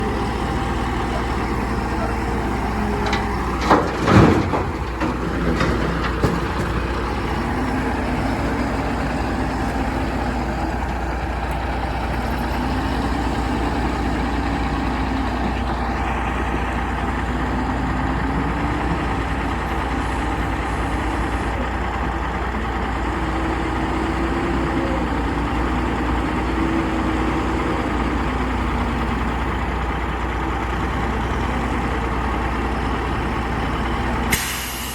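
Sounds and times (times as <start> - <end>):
diesel engine revving: 0.0 - 34.9.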